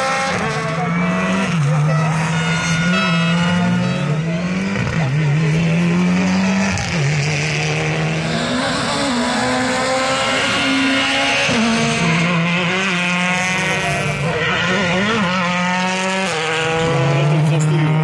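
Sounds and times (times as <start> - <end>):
rally cars accelerating past: 0.0 - 18.0.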